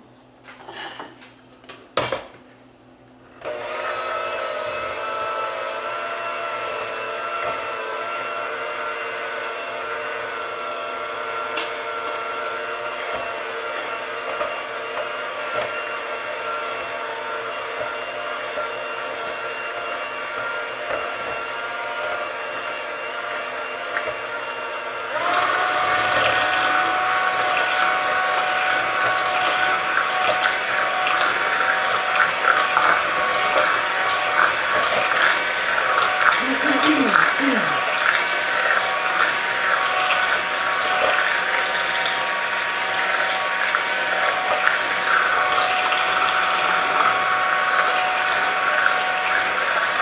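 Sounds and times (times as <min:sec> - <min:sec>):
electric hand mixer running: 0:03.4 - 0:50.0.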